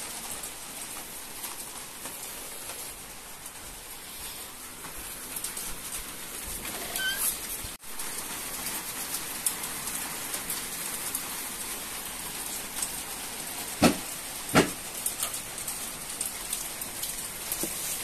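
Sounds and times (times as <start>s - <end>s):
light rain hissing: 0.0s - 18.0s.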